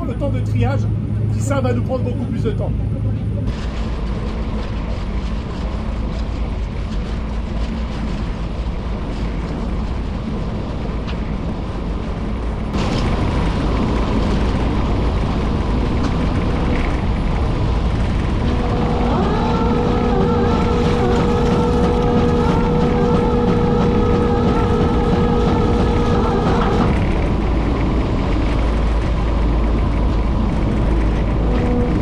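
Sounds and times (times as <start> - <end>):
boat engine rumble: 0.0 - 32.0
steady machinery whine: 0.0 - 32.0.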